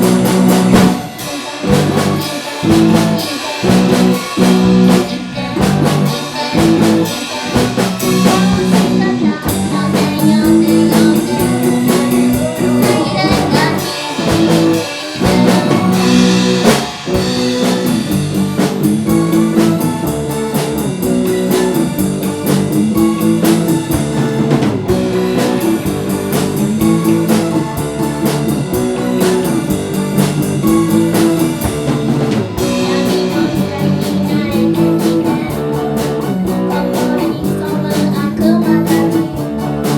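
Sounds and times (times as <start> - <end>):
drum kit beat: 0.0 - 39.9
guitar: 0.0 - 39.9
live band playing: 0.0 - 39.9.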